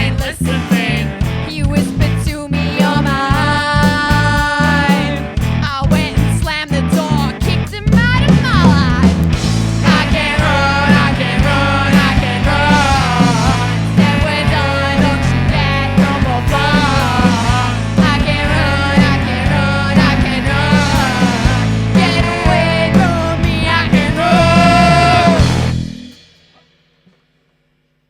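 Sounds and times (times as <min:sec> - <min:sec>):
live rock band with saxophones: 0:00.0 - 0:26.4.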